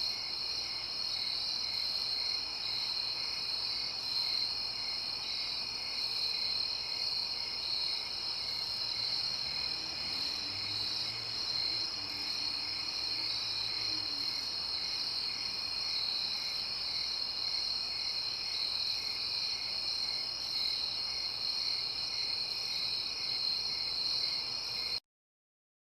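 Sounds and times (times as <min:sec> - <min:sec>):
slow regular insect chirp: 0:00.0 - 0:25.0
crickets trilling: 0:00.1 - 0:22.6.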